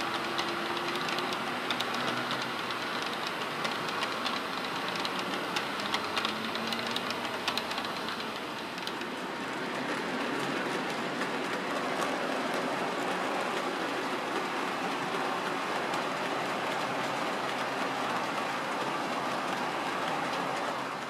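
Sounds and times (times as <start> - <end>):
model train rolling on track: 0.0 - 21.0
wheels clicking over rail joints: 0.0 - 21.0.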